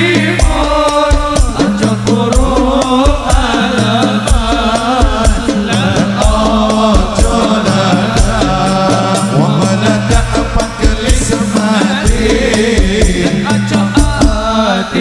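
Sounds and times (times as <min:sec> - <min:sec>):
deep bass drum: 0:00.0 - 0:14.6
person singing ornamented melody: 0:00.0 - 0:15.0.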